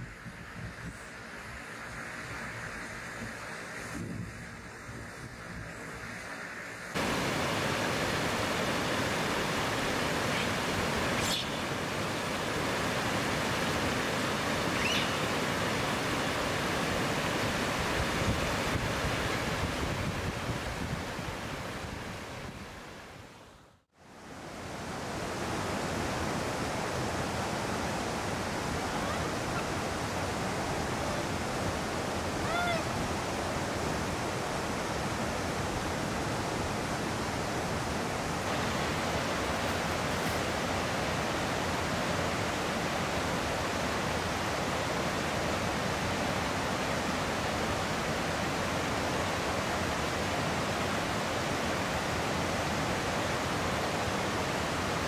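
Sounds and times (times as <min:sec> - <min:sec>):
mountain river rushing: 0:00.0 - 0:55.0.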